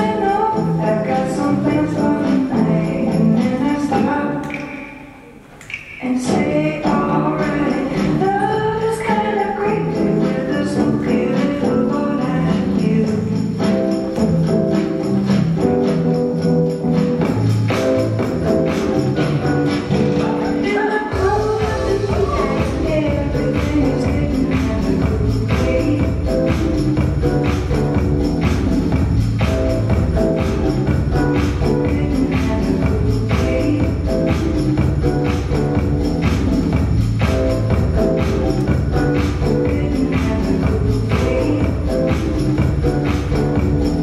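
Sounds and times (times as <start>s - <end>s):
electronic dance music: 0.0s - 44.0s.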